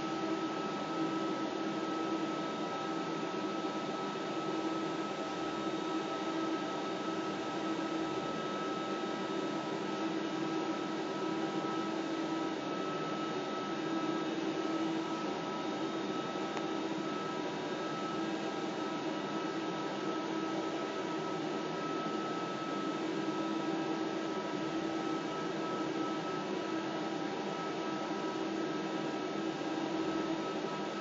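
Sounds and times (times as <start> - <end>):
thin high whine: 0.0 - 31.0.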